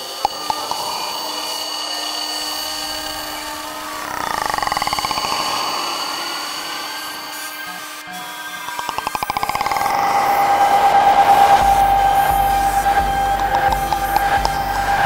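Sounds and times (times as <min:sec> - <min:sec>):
electronic drone tones: 0:00.0 - 0:15.0
ringing filter pitch sweeping: 0:00.0 - 0:15.0.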